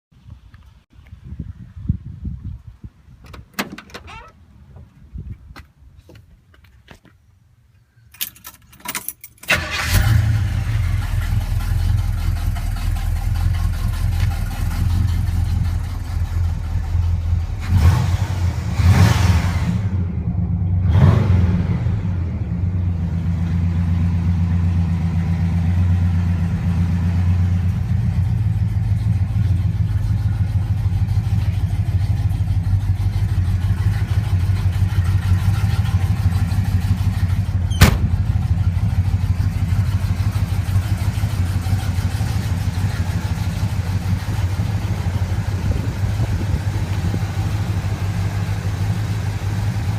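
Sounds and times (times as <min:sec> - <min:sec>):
car engine starting and idling: 0:08.2 - 0:49.9
car engine revving: 0:09.6 - 0:49.9.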